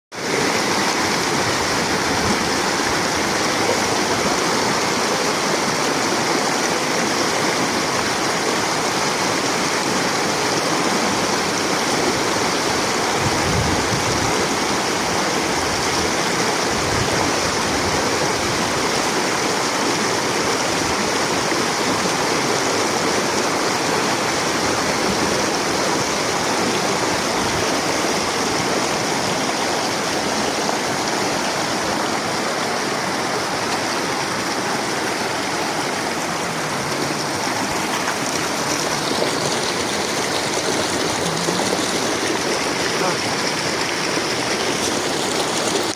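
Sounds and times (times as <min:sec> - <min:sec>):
stream water rushing: 0:00.1 - 0:45.9.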